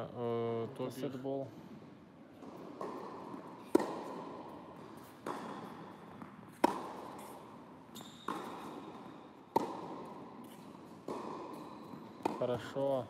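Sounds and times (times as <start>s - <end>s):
tennis racket striking ball: 2.3s - 12.8s.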